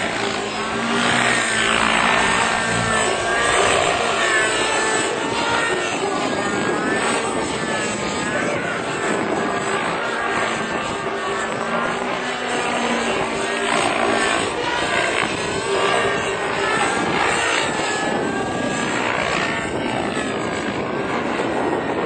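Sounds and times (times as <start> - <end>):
model helicopter engine whine: 0.0 - 22.0.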